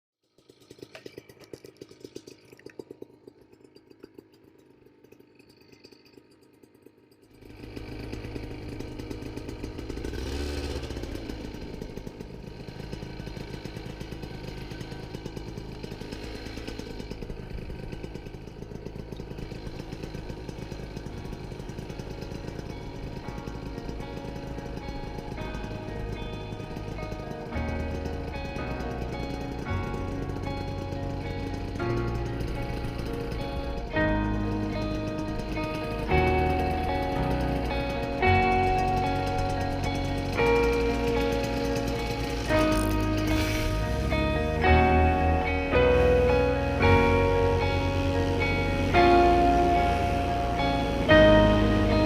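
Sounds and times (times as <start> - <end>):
paramotor engine running: 0.2 - 52.0.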